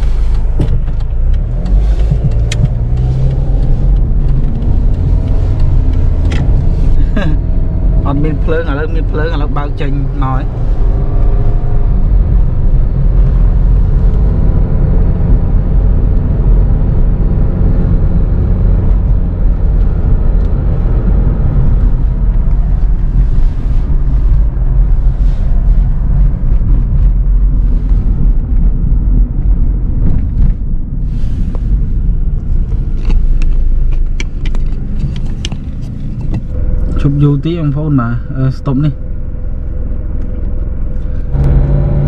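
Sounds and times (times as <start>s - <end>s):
car driving on road: 0.0s - 42.0s.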